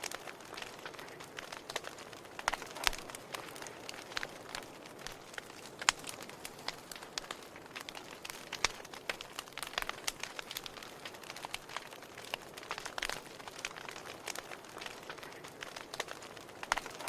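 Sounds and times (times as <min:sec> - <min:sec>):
firewood crackling and popping: 0:00.0 - 0:17.0
soft steady hiss: 0:00.0 - 0:17.0.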